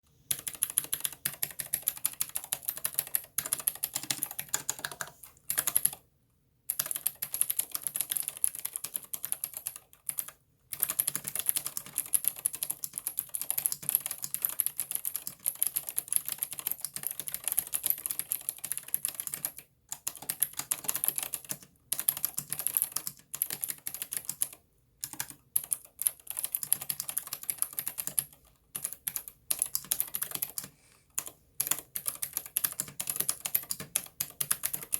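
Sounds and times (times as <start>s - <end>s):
mechanical keyboard typing: 0.3s - 6.0s, 6.7s - 34.9s.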